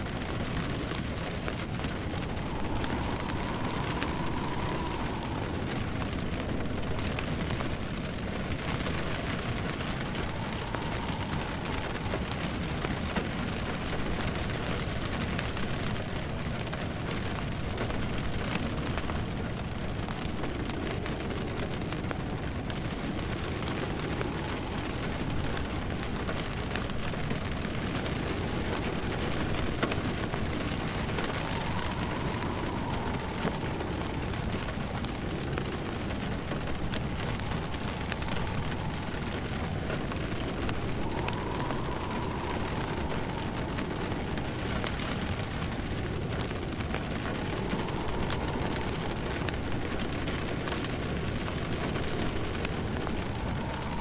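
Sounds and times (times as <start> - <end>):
fireplace crackling: 0.0 - 54.0
steady rain falling: 0.0 - 54.0.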